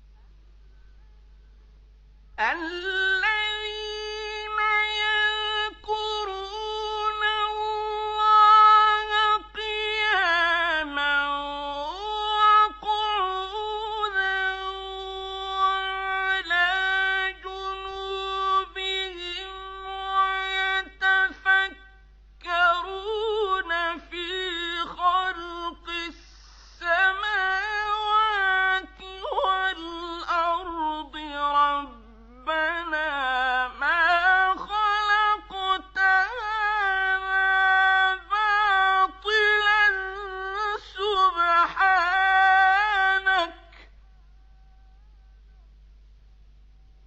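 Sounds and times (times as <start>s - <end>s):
man chanting: 2.4s - 26.2s, 26.8s - 45.2s.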